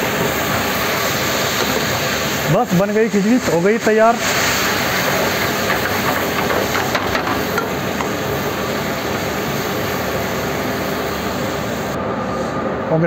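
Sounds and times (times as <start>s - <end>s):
rushing kitchen noise: 0.0s - 12.0s.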